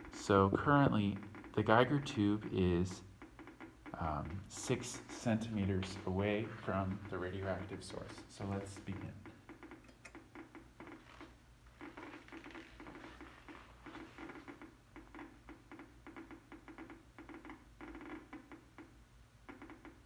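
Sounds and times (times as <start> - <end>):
geiger counter clicking: 0.0 - 20.0.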